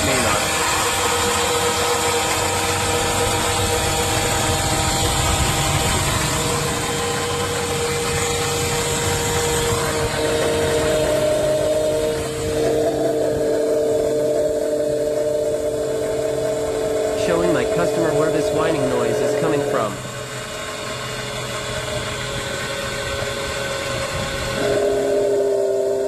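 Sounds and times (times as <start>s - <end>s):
car engine running: 0.0s - 25.4s
engine whine: 0.0s - 26.0s.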